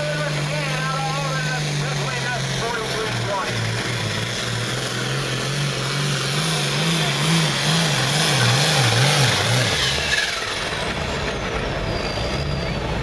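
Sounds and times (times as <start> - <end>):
diesel engine running flat out: 0.0 - 13.0.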